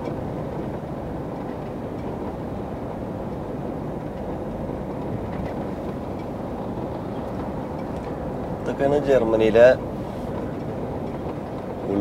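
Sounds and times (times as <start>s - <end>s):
truck engine and tyres rumbling: 0.0s - 12.0s.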